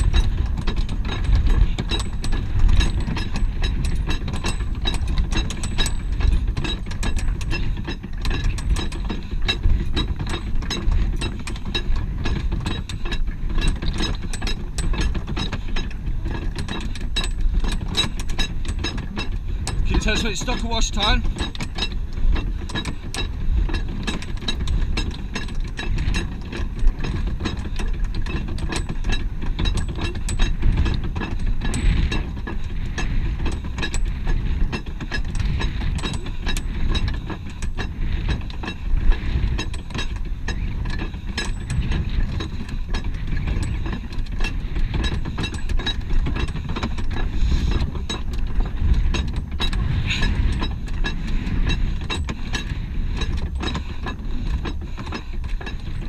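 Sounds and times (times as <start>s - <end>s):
low steady rumble: 0.0s - 56.0s
winch pawl clicking: 0.0s - 56.0s.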